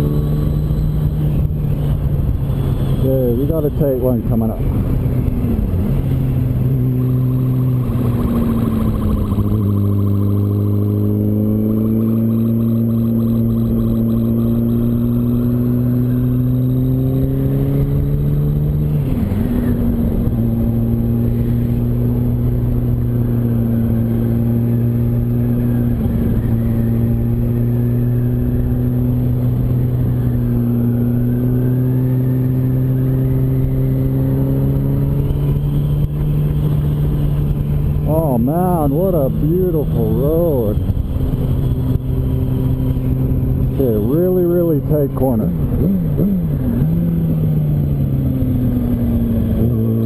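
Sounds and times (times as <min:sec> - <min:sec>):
motorcycle engine: 0:00.0 - 0:50.0.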